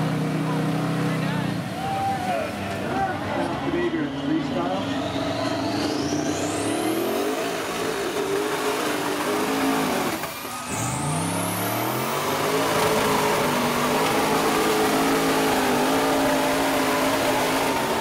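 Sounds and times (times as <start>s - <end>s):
buggy engine revving: 0.0s - 18.0s.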